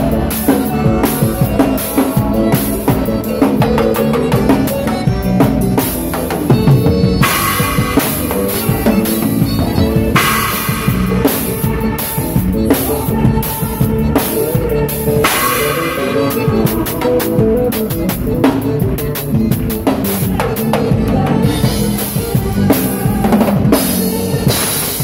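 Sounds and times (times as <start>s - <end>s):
drum kit steady beat: 0.0s - 25.0s
held keyboard chords: 0.0s - 25.0s.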